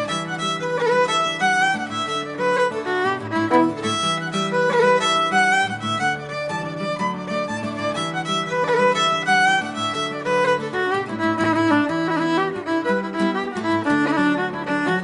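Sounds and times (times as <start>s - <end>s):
fiddle playing a jig: 0.0s - 15.0s.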